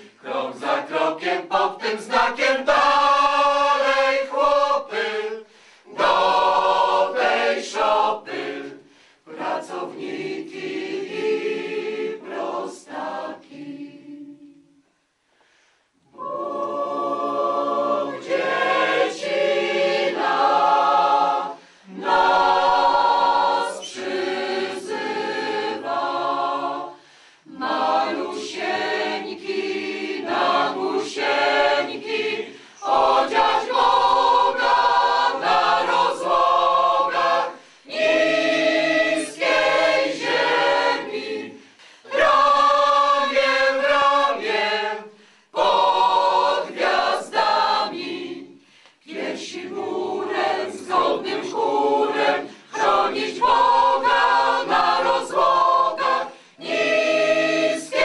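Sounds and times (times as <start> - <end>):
mixed choir singing a cappella: 0.0 - 15.0, 15.9 - 58.0.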